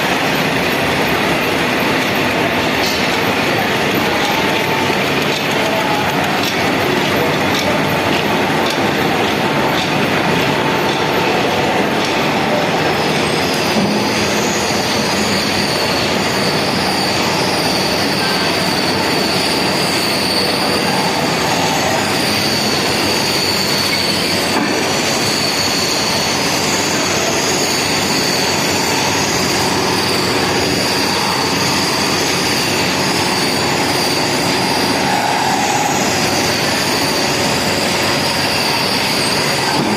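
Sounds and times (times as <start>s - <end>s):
heavy metalworking machine running: 0.0s - 39.9s
high metal-on-metal squeal: 0.0s - 39.9s.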